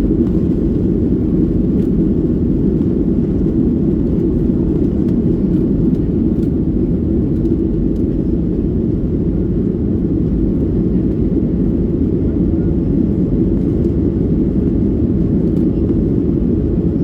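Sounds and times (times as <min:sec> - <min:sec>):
jet engines and airflow rumble: 0:00.0 - 0:17.0.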